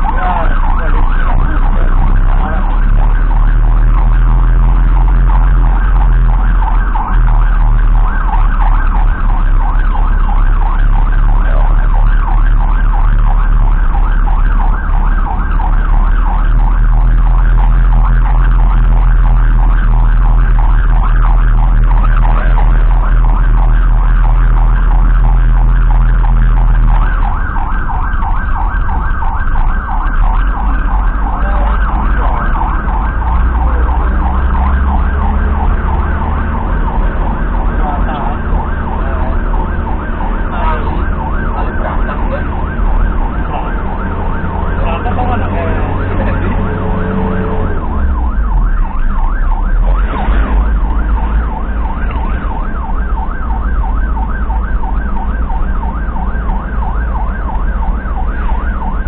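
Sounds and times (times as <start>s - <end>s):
ambulance engine: 0.0s - 59.0s
ambulance siren yelping: 0.0s - 59.0s.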